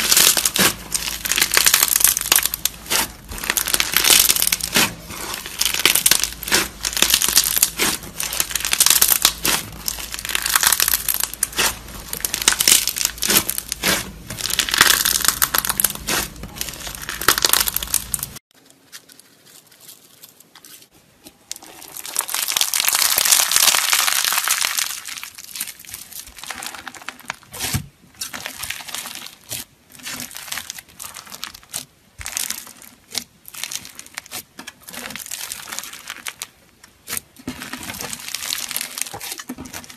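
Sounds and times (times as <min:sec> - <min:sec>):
crunchy slime crackling and popping: 0:00.0 - 0:39.9.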